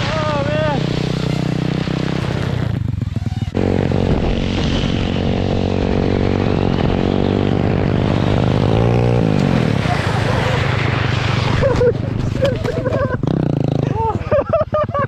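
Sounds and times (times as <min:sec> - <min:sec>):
small motorbike engine running: 0:00.5 - 0:15.0.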